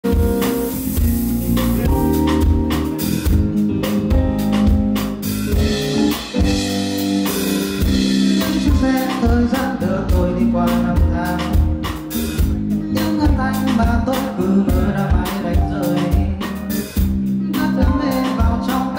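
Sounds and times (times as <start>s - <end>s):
drums hitting a steady beat: 0.0s - 18.9s
live rock band playing: 0.0s - 18.9s.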